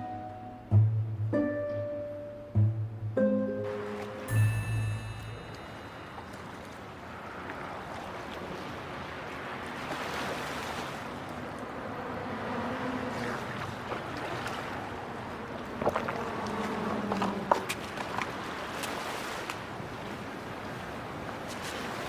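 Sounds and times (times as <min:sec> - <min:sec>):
steady rushing outdoor noise: 0:03.7 - 0:22.0.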